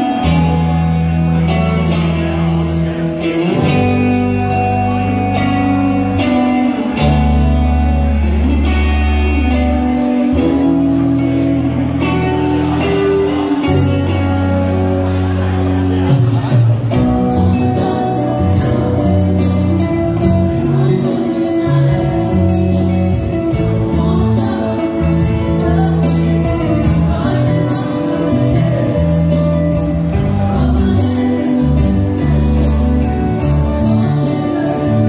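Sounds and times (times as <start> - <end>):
man singing: 0.0 - 7.3, 12.1 - 35.0
live rock band playing: 0.0 - 35.0.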